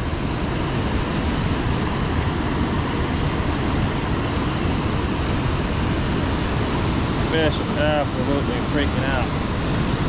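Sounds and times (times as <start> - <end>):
water rushing over rocks: 0.1 - 10.0.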